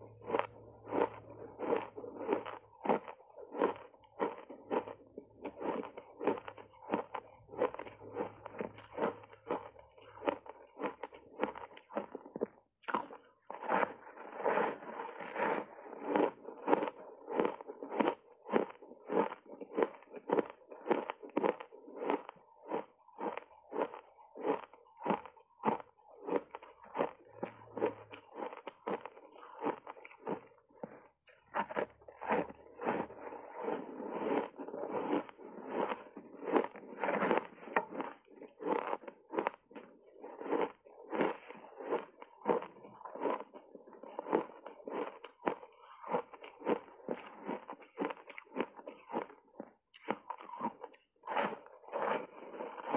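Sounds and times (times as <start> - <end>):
ice being crunched and chewed: 0.0 - 52.9.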